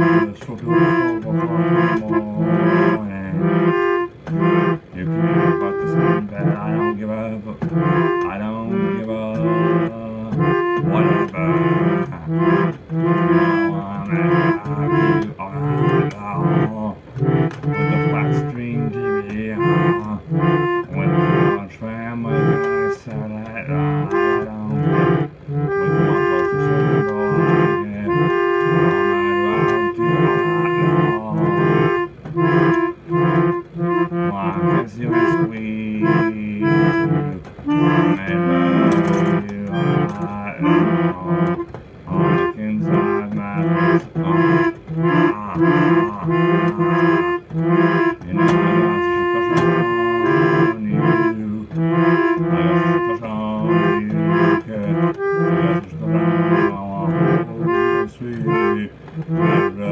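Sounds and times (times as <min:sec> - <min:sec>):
instrumental backing track: 0:00.0 - 0:59.9.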